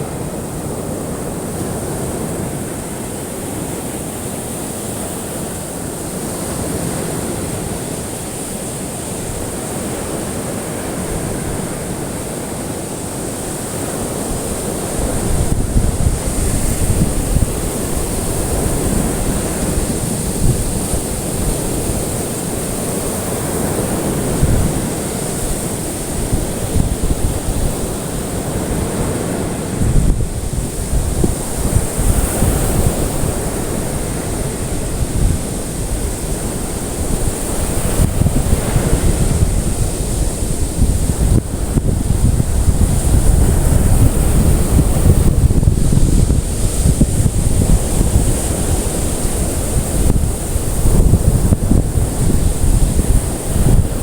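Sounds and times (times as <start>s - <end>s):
ocean surf washing in: 0.0s - 54.0s
wind rumble on microphone: 0.0s - 54.0s.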